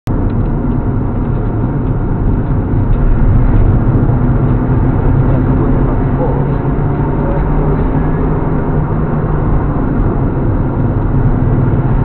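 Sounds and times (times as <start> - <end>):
road and wind noise: 0.0 - 12.0
car engine running: 0.1 - 12.0.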